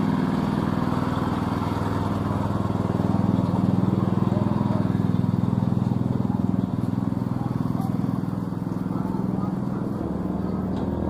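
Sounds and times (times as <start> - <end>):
small motorcycle engine idling: 0.0 - 11.0.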